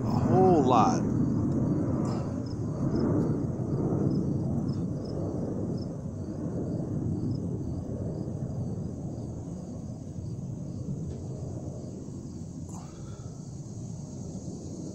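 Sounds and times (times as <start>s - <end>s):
low rumble of distant noise: 0.0s - 14.9s.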